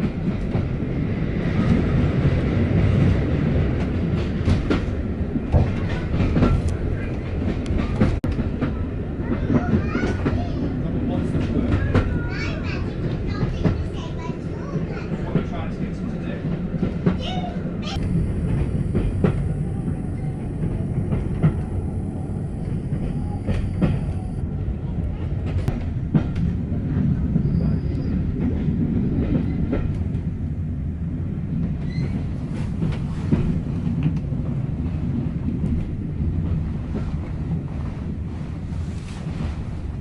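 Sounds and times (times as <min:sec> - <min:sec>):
railway carriage rumbling: 0:00.0 - 0:40.0.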